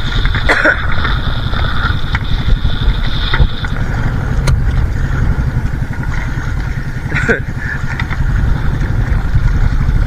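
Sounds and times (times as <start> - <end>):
boat engine running: 0.0 - 10.0
water splashing along hull: 0.0 - 10.0.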